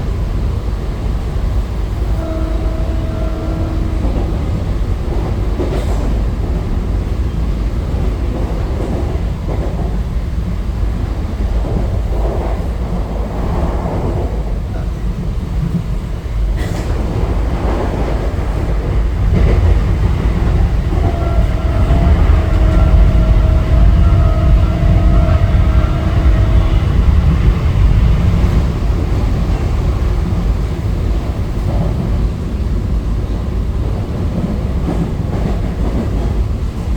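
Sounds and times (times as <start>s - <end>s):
electric train rumble: 0.0s - 36.9s
sharp train clacks: 1.5s - 36.9s.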